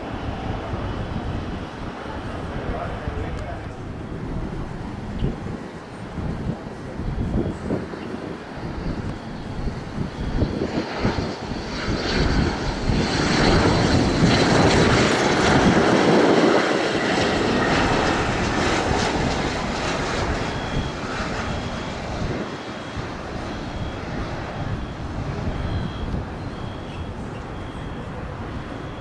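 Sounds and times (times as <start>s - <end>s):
jet engines passing close: 0.0s - 29.0s.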